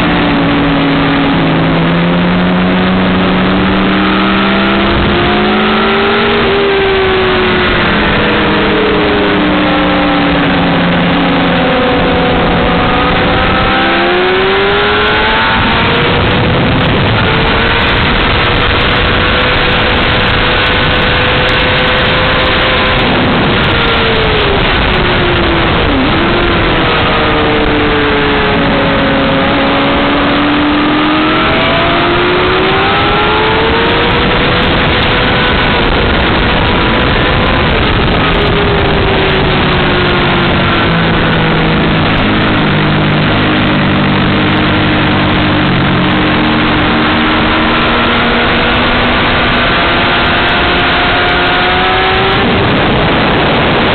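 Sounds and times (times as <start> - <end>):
motorcycle engine revving: 0.0 - 53.9
wind noise rushing: 0.0 - 53.9.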